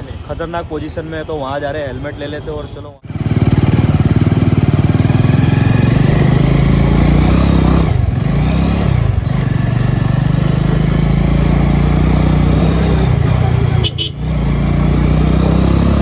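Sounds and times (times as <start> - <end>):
motorcycle engine running: 3.0 - 16.0.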